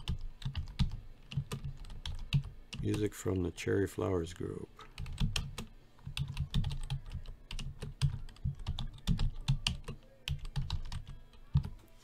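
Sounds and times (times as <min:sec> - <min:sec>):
keyboard typing: 0:00.0 - 0:03.1, 0:04.9 - 0:11.9.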